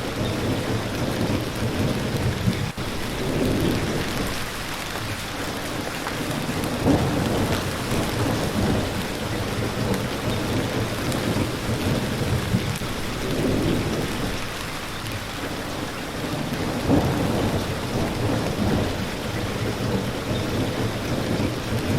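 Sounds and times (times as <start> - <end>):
steady rain hiss: 0.0 - 21.9.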